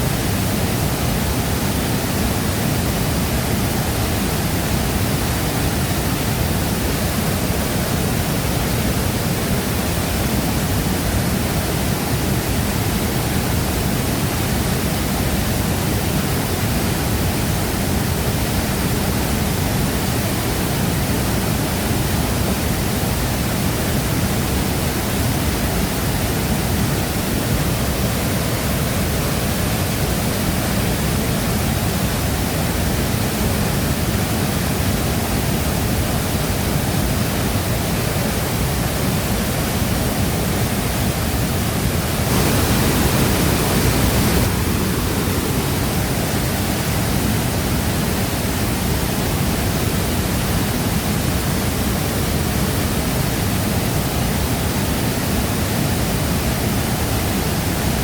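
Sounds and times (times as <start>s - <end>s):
waterfall crashing: 0.0s - 58.0s.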